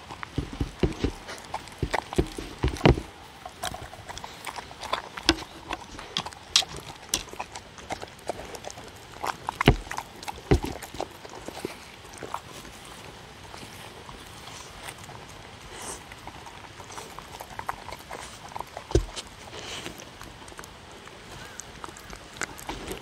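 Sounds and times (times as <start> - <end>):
dogs chewing and licking: 0.0 - 23.0.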